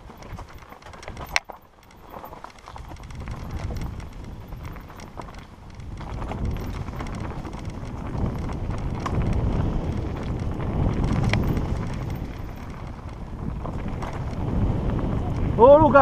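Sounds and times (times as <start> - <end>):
bike rattling and knocking: 0.0 - 16.0
tyre and wind rumble: 0.0 - 16.0.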